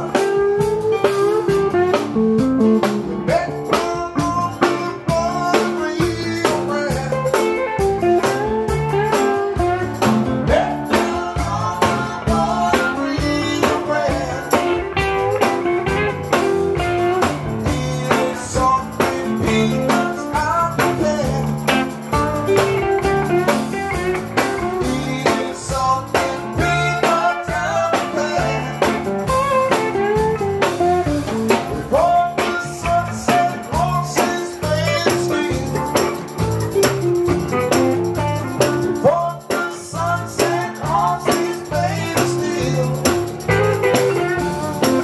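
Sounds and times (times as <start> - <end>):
bass line: 0.0 - 45.0
drum kit: 0.0 - 45.0
electric guitar playing: 0.0 - 45.0
tambourine shaken: 3.3 - 45.0.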